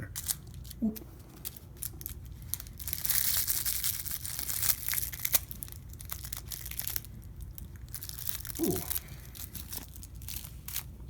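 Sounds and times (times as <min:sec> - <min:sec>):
crinkle ball crackling: 0:00.0 - 0:11.0.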